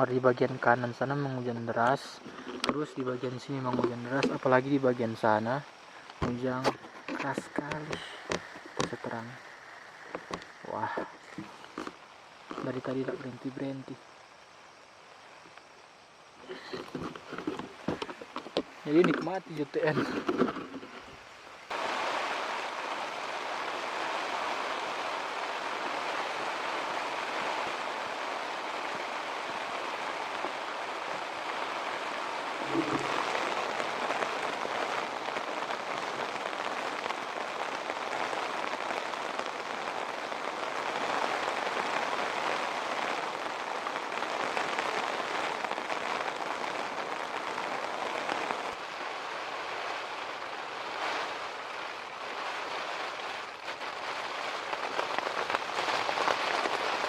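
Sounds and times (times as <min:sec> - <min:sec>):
heavy rain on a tent: 0:00.0 - 0:57.0.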